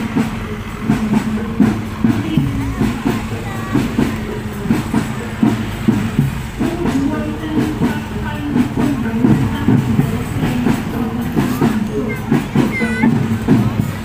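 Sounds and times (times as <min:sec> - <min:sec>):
drums playing march rhythm: 0:00.0 - 0:14.0.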